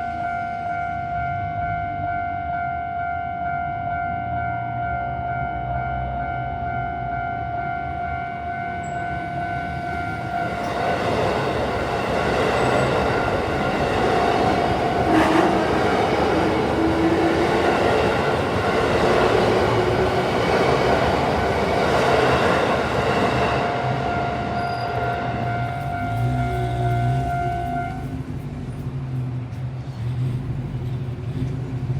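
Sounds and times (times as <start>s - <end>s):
level crossing warning bell: 0.0s - 28.1s
electric train passing: 0.0s - 31.9s.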